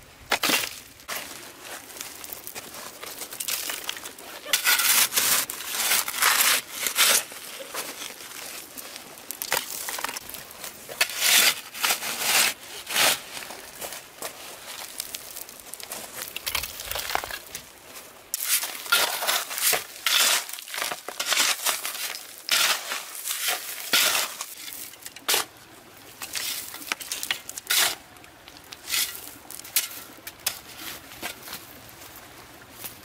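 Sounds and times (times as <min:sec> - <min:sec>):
dry rustling and crunching: 0:00.3 - 0:33.0.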